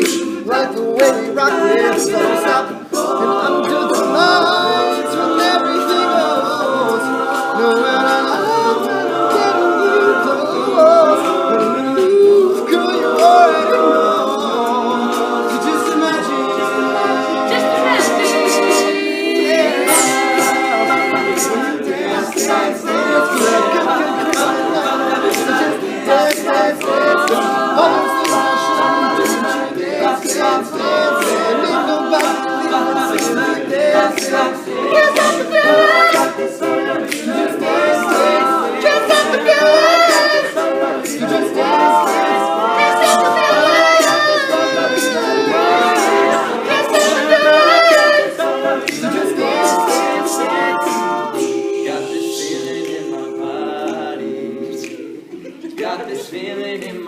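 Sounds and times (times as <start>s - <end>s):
vocal percussion clicks: 0.0s - 16.8s, 17.4s - 57.0s
male a cappella harmony singing: 0.0s - 57.0s.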